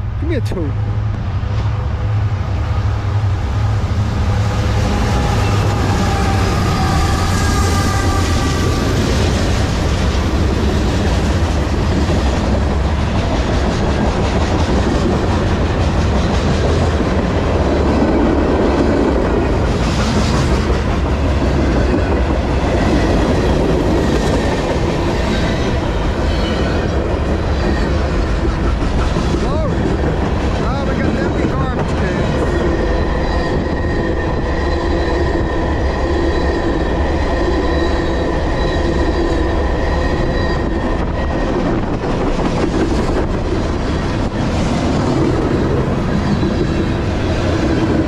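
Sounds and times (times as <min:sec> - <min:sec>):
diesel locomotives rumbling: 0:00.0 - 0:48.0.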